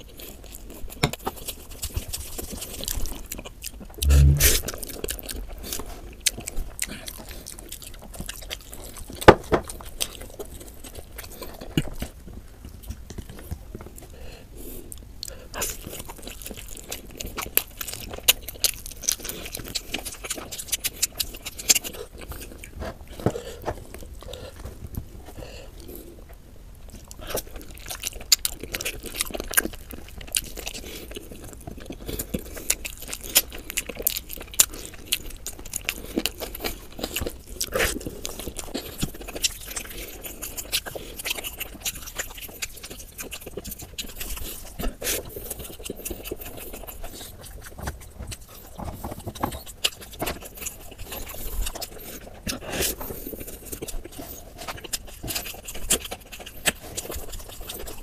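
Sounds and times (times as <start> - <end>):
chewing and mouth sounds: 0.0 - 58.0.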